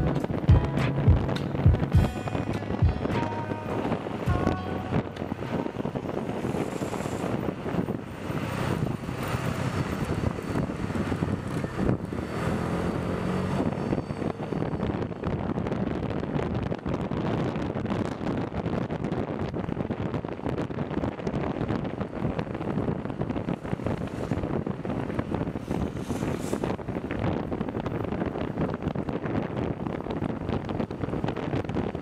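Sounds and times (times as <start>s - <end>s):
road rumble: 0.0s - 32.0s
wind rushing over microphone: 0.0s - 32.0s.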